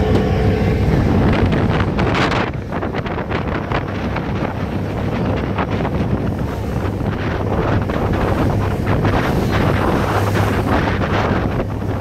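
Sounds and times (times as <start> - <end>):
water rushing from wake: 0.0 - 12.0
wind buffeting microphone: 0.0 - 12.0.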